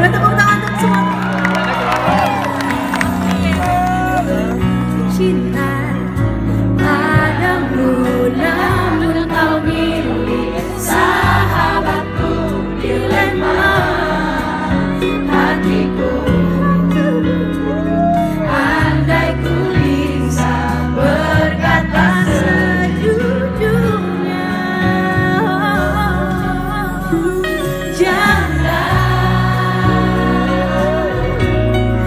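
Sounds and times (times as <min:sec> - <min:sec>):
band accompaniment: 0:00.0 - 0:25.6, 0:27.6 - 0:32.0
woman singing: 0:04.0 - 0:14.4, 0:15.2 - 0:31.5.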